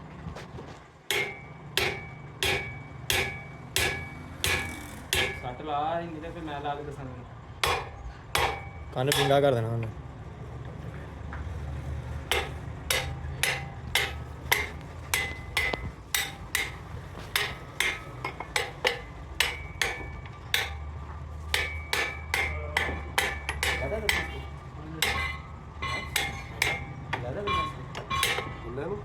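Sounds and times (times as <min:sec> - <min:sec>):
steady low hum: 0:00.0 - 0:29.0
hammer striking steel: 0:01.1 - 0:05.9, 0:07.6 - 0:09.8, 0:12.2 - 0:28.8.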